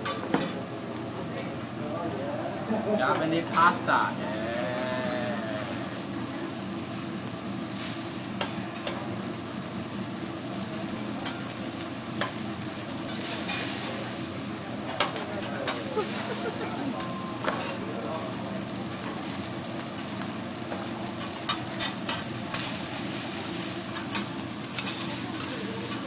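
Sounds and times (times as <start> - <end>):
noodles sizzling on griddle: 0.0 - 26.0.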